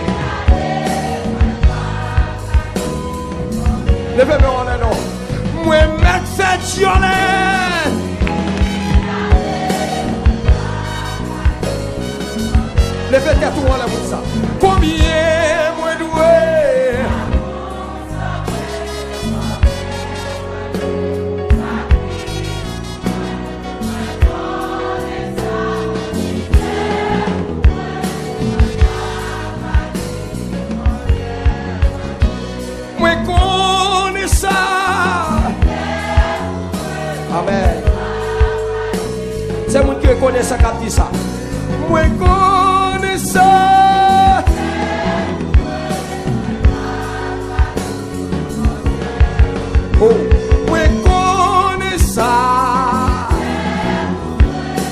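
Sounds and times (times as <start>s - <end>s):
band with drums and bass: 0.0s - 54.9s
choir singing: 0.0s - 54.9s
held instrumental backing: 0.0s - 54.9s.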